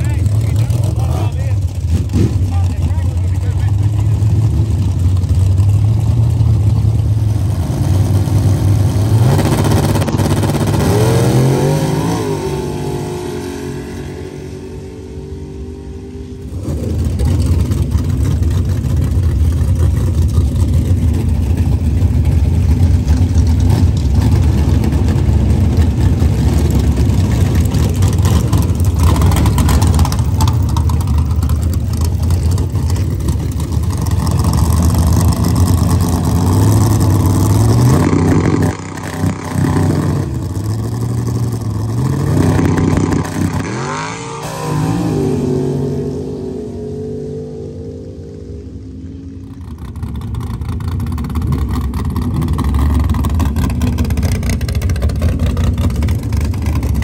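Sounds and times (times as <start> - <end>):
drag racing engine revving: 0.0 - 57.0
loud low engine rumble: 0.0 - 57.0.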